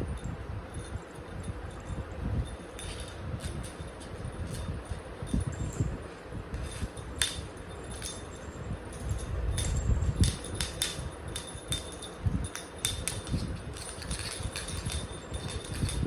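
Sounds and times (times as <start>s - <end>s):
light clicks and tinkles: 0.0s - 16.0s.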